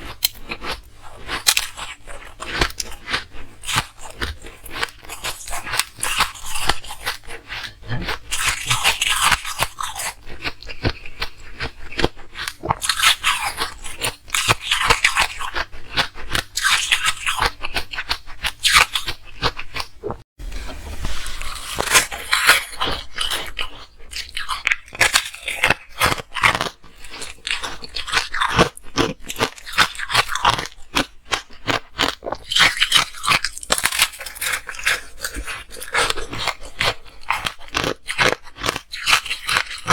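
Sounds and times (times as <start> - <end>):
ice crunching being chewed: 0.0 - 20.2, 21.1 - 39.9.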